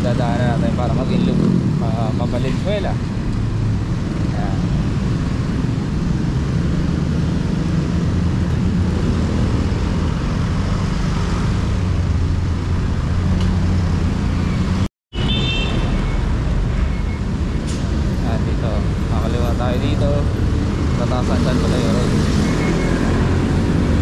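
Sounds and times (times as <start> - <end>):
road traffic: 0.0 - 24.0.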